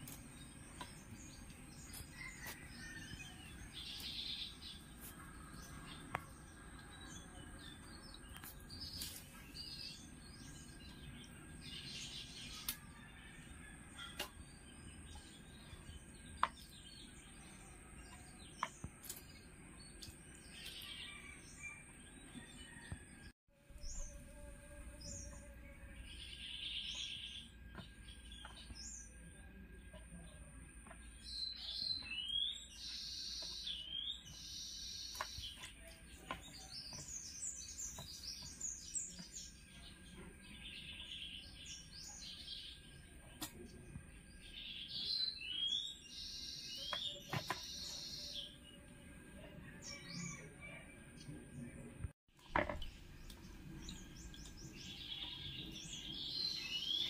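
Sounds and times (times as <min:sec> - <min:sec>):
birds chirping: 0:00.0 - 0:22.9, 0:23.8 - 0:57.0.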